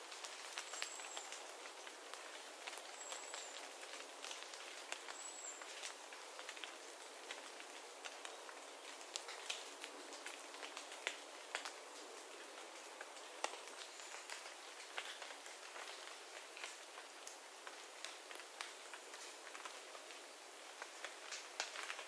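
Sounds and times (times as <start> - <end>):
rainwater dripping from trees: 0.0 - 22.0
soft steady hiss: 0.0 - 22.0.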